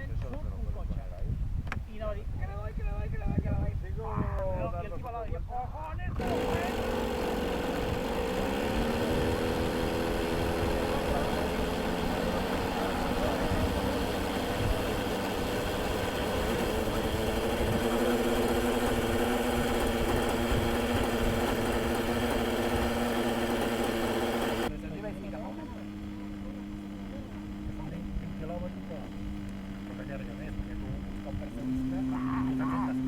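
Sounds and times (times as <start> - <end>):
model helicopter engine running: 6.2 - 33.0.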